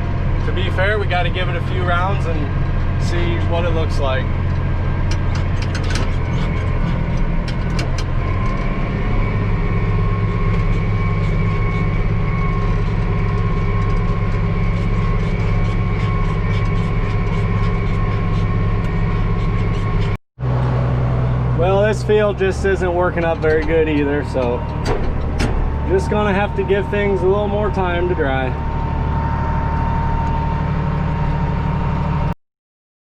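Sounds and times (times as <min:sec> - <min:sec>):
diesel tractor engine running: 0:00.0 - 0:32.4.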